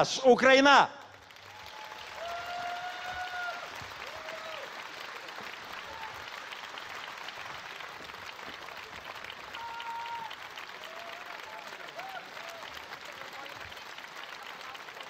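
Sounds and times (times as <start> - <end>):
audience applauding: 1.0 - 15.0.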